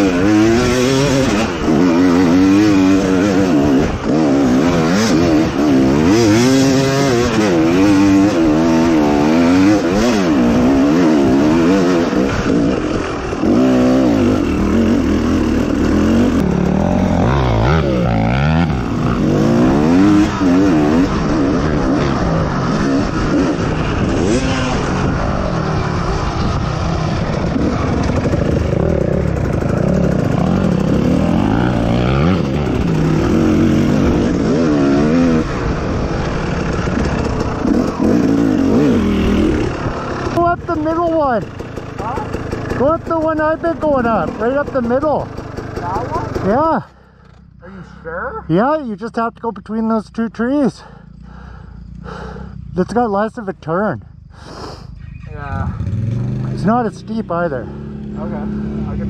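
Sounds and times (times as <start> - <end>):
off-road vehicle engine revving: 0.0 - 47.4, 49.8 - 59.0.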